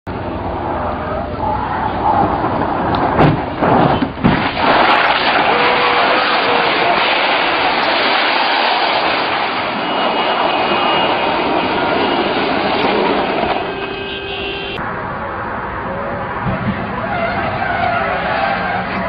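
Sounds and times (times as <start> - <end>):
loud vehicle noise: 0.1 - 19.0.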